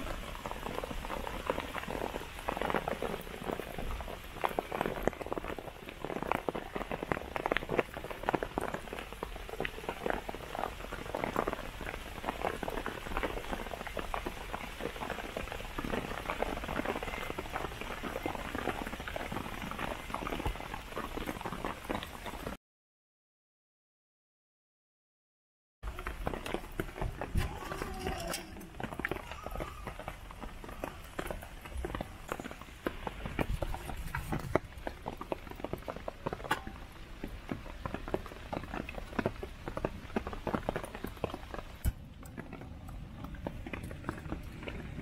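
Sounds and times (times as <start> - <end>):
rain pattering on canvas tarp: 0.0 - 22.6, 25.8 - 45.0.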